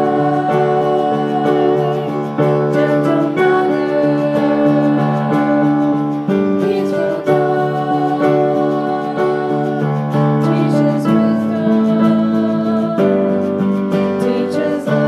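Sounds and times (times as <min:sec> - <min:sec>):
keyboard and guitar chords: 0:00.0 - 0:15.0
person singing: 0:00.0 - 0:15.0.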